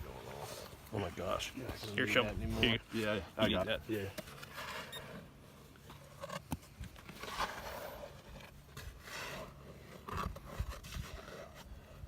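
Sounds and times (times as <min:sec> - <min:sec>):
scraping and scratching in soil: 0:00.0 - 0:12.0.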